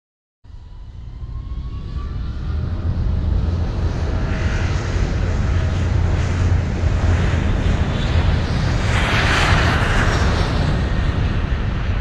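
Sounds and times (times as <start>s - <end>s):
light aircraft engine droning: 0.5s - 12.0s.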